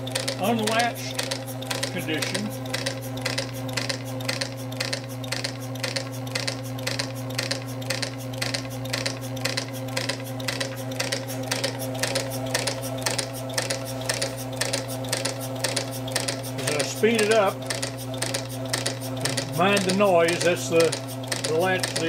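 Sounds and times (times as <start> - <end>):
electric motor hum: 0.0 - 22.0
engine cam and valve clicking: 0.0 - 22.0.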